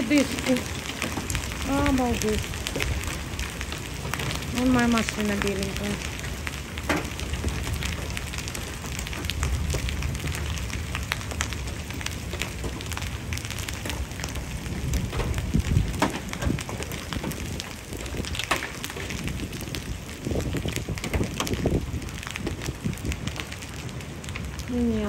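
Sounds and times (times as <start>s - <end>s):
hailstones ticking: 0.0s - 25.0s
rain hissing on pavement: 0.0s - 25.0s
wind rumble on microphone: 0.0s - 25.0s.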